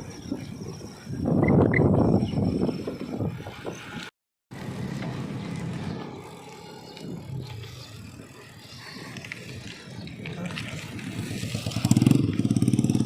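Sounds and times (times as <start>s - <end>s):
wind and road noise from bike: 0.0s - 13.0s.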